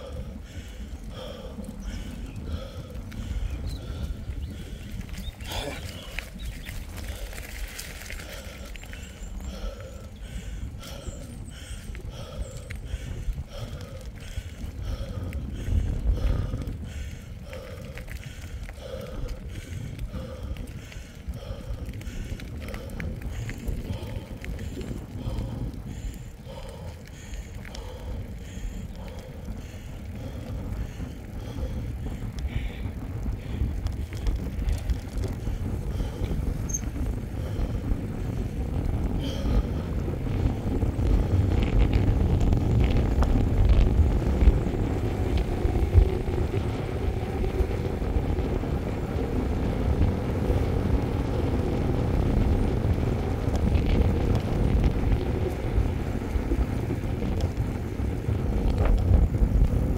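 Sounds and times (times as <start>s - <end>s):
bike tyres rolling on asphalt: 0.0s - 59.9s
wind on microphone: 0.0s - 59.9s.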